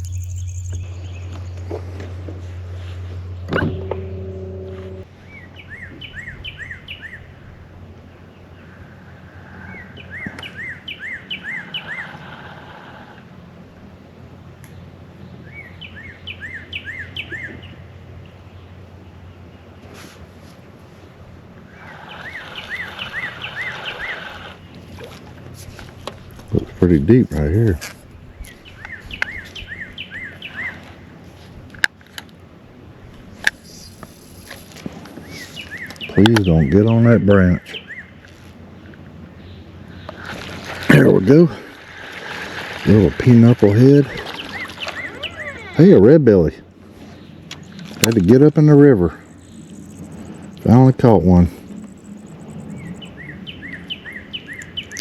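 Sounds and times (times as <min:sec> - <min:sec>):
songbird singing: 0:00.0 - 0:12.3, 0:14.3 - 0:20.0, 0:21.4 - 0:55.0.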